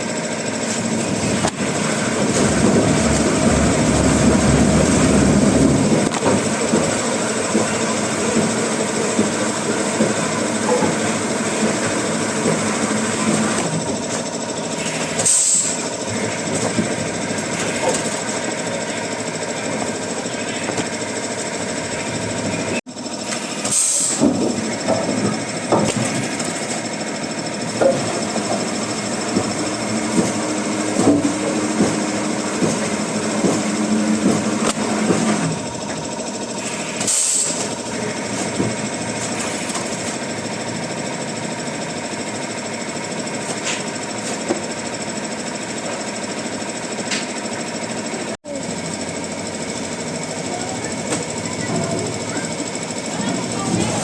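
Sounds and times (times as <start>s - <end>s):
woodworking machine clatter: 0.0s - 54.0s.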